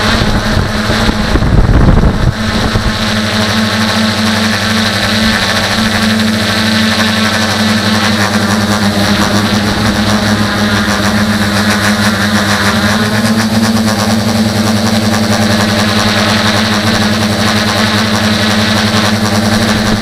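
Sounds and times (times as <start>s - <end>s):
drone motors buzzing: 0.0s - 20.0s.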